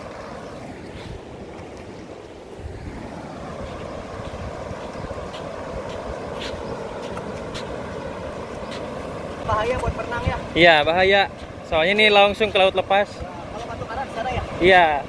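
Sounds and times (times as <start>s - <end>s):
sea surf washing: 0.0s - 15.0s
wind buffeting microphone: 0.0s - 15.0s.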